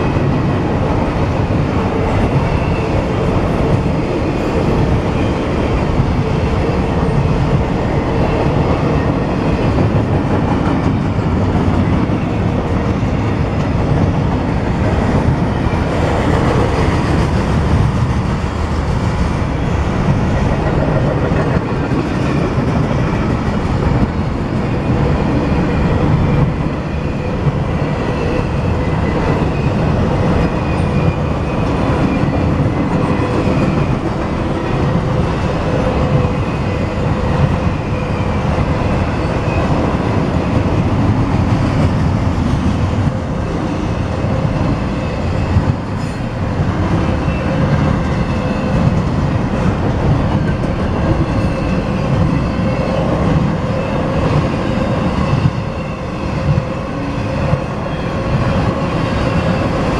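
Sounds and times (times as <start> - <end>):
steel train wheels rumbling on rail: 0.0 - 59.9.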